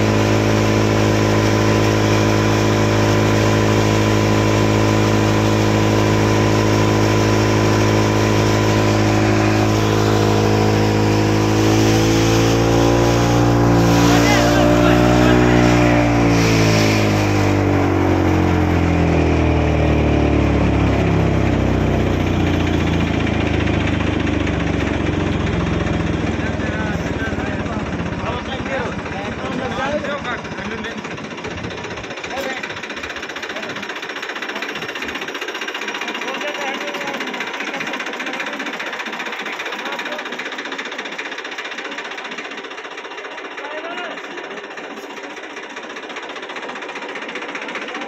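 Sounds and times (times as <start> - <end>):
farm machinery rattling: 0.0 - 19.6, 20.3 - 48.0
tractor engine running fast: 0.0 - 48.0.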